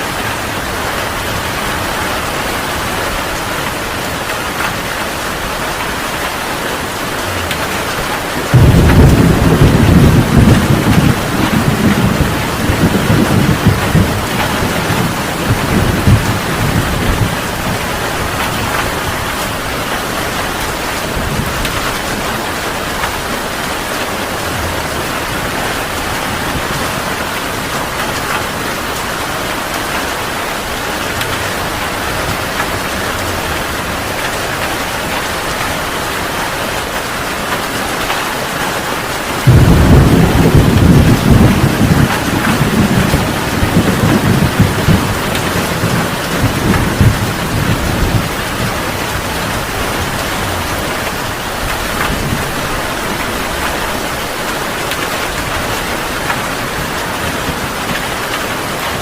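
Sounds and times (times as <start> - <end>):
heavy rain falling: 0.0 - 59.0
thunder rumbling: 0.4 - 35.9, 39.4 - 58.8.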